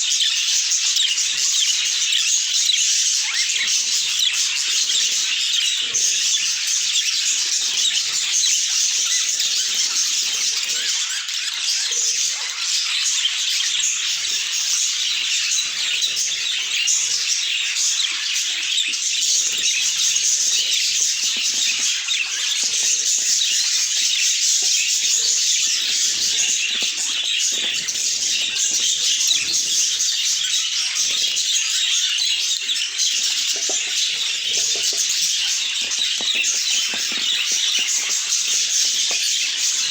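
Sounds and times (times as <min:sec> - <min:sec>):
budgies chattering and chirping: 0:00.0 - 0:39.9.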